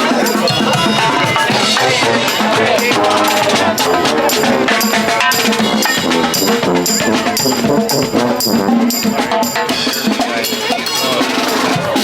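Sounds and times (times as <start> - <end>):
brass music over a beat: 0.0 - 12.0.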